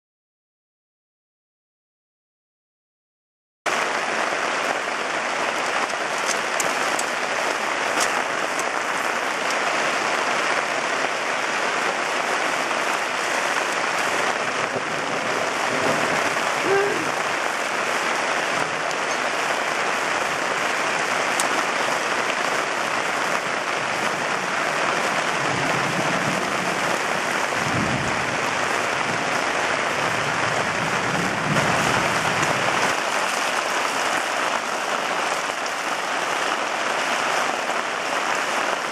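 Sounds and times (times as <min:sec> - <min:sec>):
heavy rain pouring: 0:03.7 - 0:38.9.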